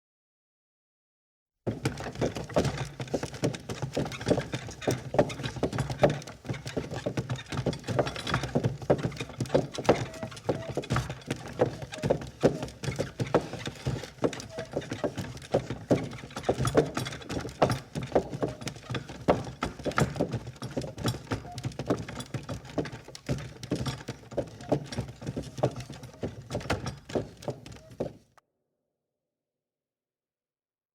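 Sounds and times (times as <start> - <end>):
ox cart clattering: 1.7 - 28.3
hooves clip-clopping: 1.7 - 28.4.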